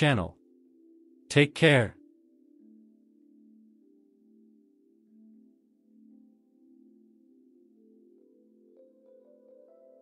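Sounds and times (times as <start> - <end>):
soft bell-like music: 1.9 - 10.0.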